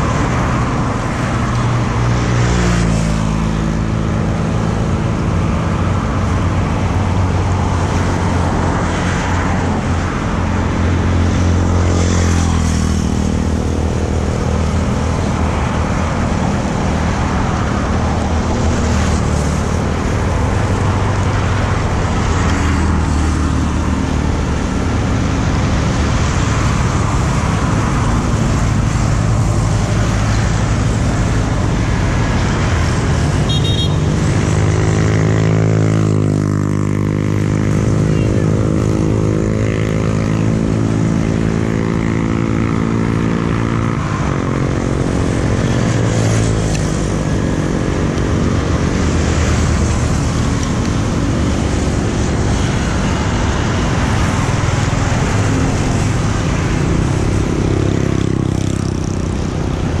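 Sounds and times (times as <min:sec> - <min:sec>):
motorbikes passing: 0:00.0 - 1:00.0
traffic passing on wet road: 0:00.0 - 1:00.0.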